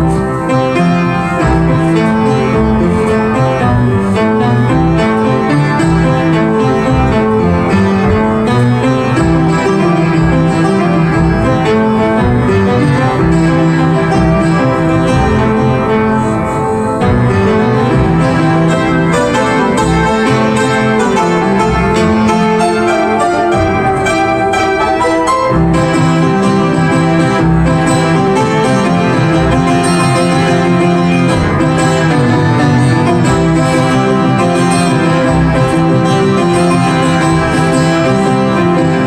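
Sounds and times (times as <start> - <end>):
music with steady beat: 0.0 - 39.0.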